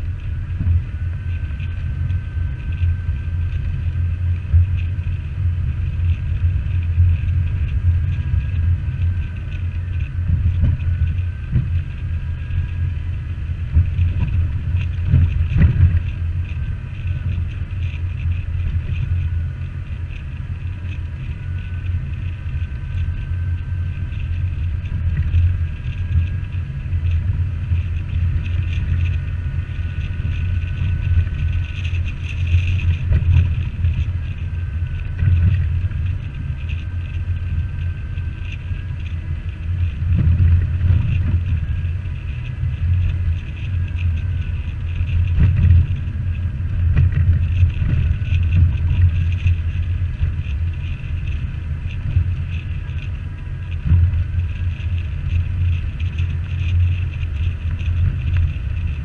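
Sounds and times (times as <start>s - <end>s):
faint wavering whine: 0.0s - 59.0s
vehicle engine rumble: 0.0s - 59.0s.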